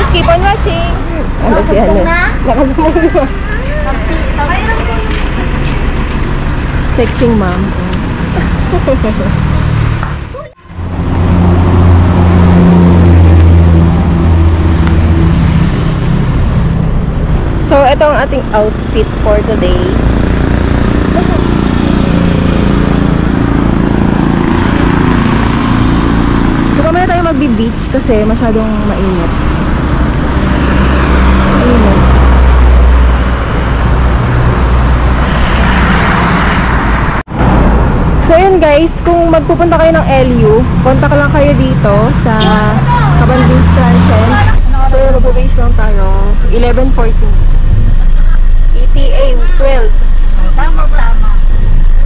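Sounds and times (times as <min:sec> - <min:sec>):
road traffic rumble: 0:00.0 - 0:52.0
vehicle engine humming: 0:00.0 - 0:52.0.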